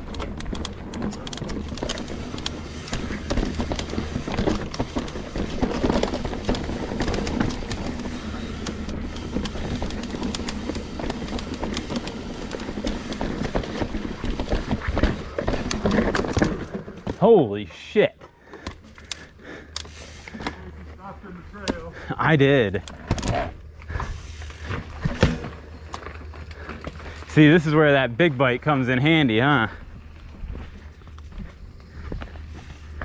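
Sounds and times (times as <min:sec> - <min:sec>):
bike rattling over bumps: 0:00.0 - 0:33.0
tyre noise on dirt: 0:00.0 - 0:33.0.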